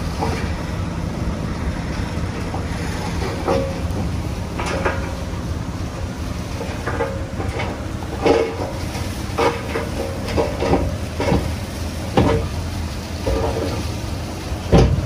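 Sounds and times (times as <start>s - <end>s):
diesel engine rumble: 0.0s - 15.0s
steel tracks clanking and squeaking: 0.0s - 15.0s.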